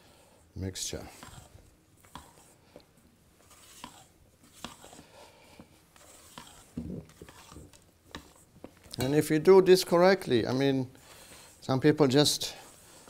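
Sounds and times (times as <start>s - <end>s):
spatula scraping batter: 0.1s - 13.0s.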